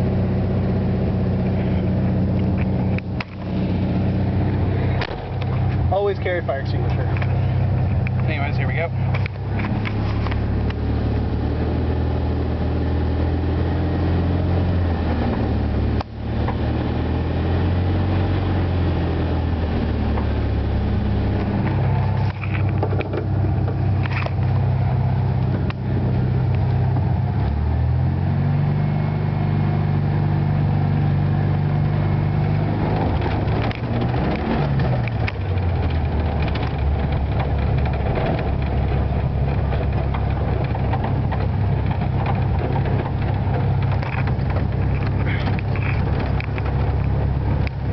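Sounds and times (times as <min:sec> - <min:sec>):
car engine running: 0:00.0 - 0:47.9.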